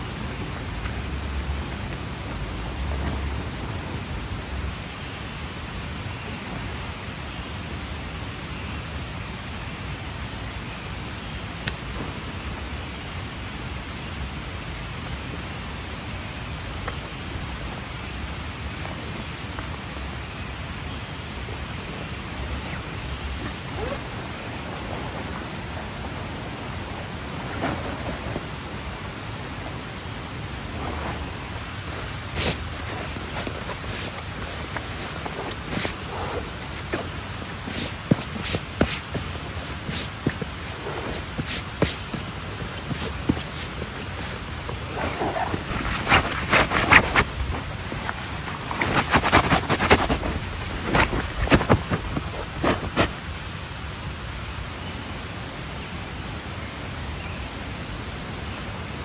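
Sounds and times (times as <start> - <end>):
insect drone: 0.0 - 59.0
steady hiss: 0.0 - 59.0.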